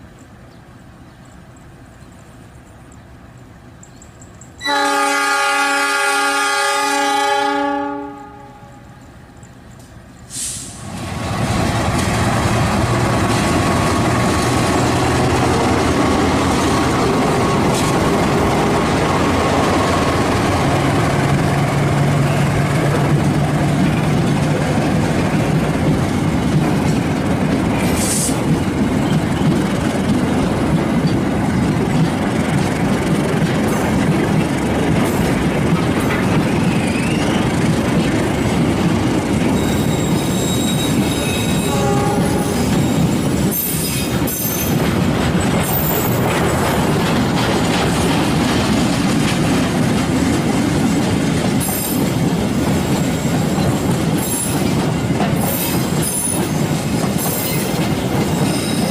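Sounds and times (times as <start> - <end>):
train wheels rumbling on rails: 0.0 - 58.9.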